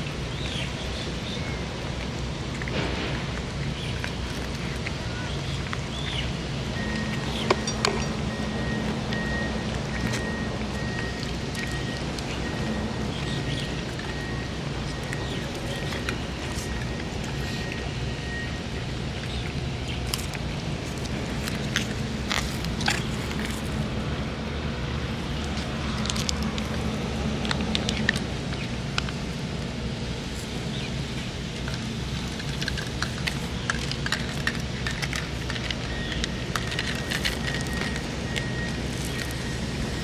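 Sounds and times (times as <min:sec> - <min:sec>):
cats chewing and licking food: 0:00.0 - 0:40.0.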